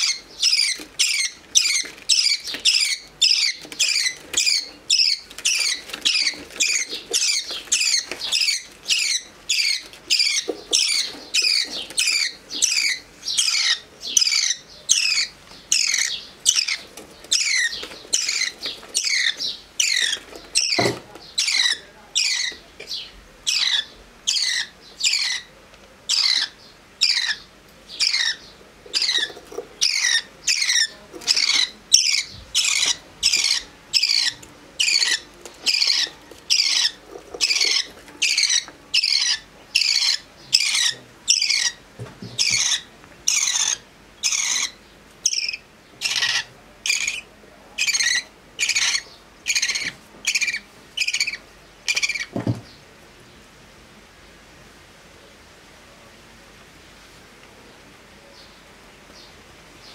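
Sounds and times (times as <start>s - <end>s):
bird chick begging calls: 0.0s - 25.5s, 26.1s - 41.8s, 42.4s - 52.3s.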